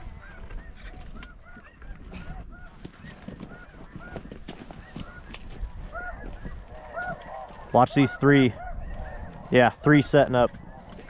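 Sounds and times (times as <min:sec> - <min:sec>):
geese yelping: 0:00.0 - 0:11.0
wind rumble on microphone: 0:00.0 - 0:11.0.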